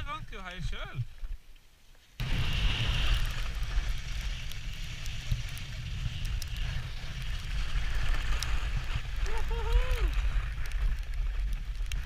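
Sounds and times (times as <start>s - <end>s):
skis sliding on hard snow: 2.0s - 12.0s.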